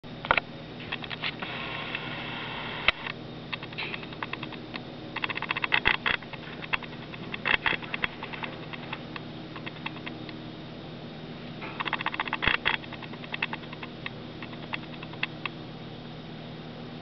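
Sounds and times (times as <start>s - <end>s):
low hum: 0.3s - 17.0s.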